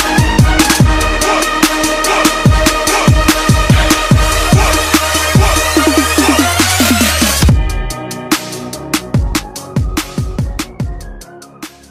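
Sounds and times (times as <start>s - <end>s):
heavy kick drums: 0.0s - 8.0s, 9.0s - 11.1s
bass line: 0.0s - 11.9s
electronic dance music: 0.0s - 11.9s.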